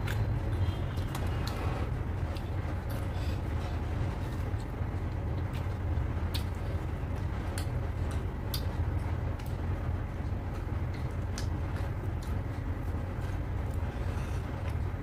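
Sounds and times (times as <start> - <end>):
mouth clicks and smacks: 0.0 - 3.1, 4.2 - 13.9.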